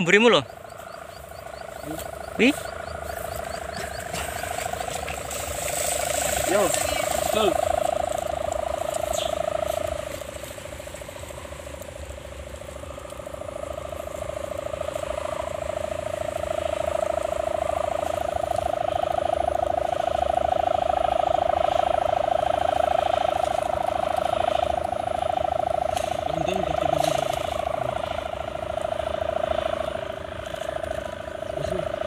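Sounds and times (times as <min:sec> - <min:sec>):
kite hummer droning: 0:00.0 - 0:32.0.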